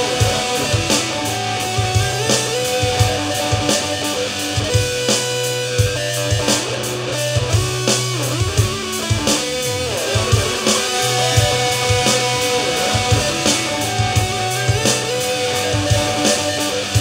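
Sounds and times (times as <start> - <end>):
bass notes: 0.0 - 17.0
drum kit beat: 0.0 - 17.0
electric guitar lead: 0.0 - 17.0.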